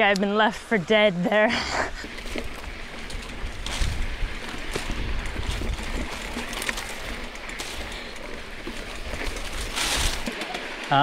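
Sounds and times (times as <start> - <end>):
tyre and wind noise: 1.4 - 11.0
bike clicks and rattles: 1.9 - 11.0.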